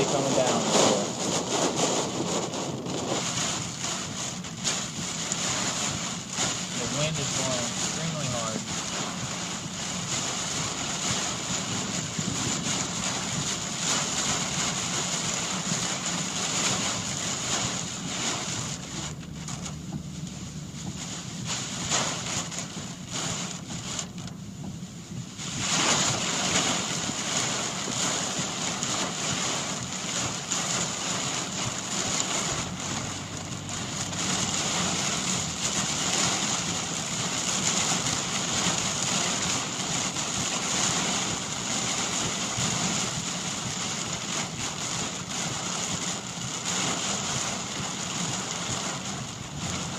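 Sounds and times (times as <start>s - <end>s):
heavy rain pouring on a car: 0.0s - 49.9s
wind: 0.0s - 49.9s.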